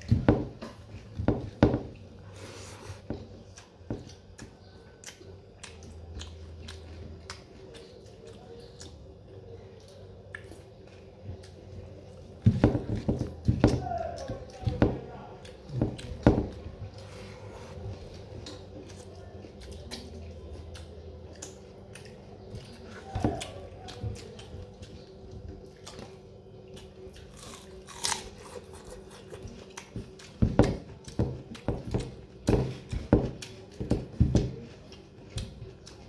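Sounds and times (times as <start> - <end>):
faint steady hum: 0.0 - 36.0
chewing and crunchy bites: 3.2 - 36.0.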